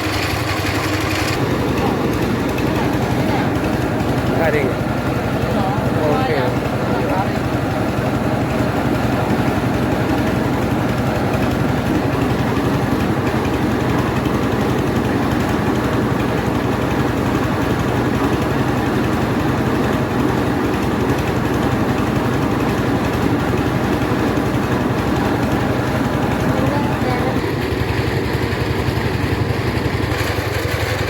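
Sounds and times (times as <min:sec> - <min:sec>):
milling machine droning: 0:00.0 - 0:31.0.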